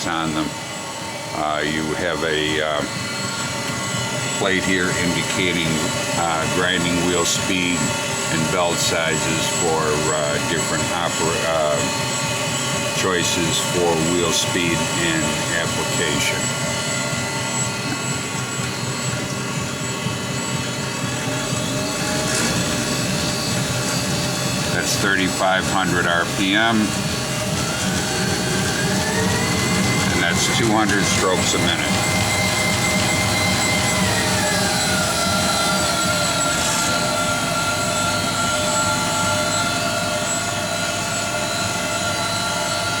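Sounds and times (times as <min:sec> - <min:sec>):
grinding machine humming: 0:00.0 - 0:43.0.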